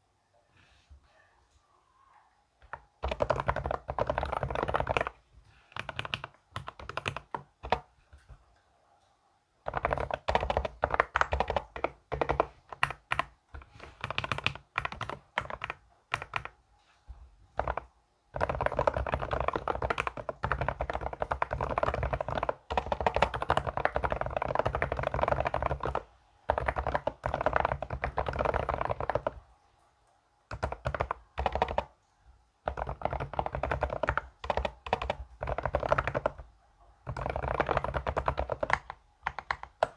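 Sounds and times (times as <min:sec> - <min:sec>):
fast typing on keyboard: 0:02.6 - 0:08.3, 0:09.6 - 0:16.6, 0:17.5 - 0:29.4, 0:30.5 - 0:32.0, 0:32.6 - 0:39.9.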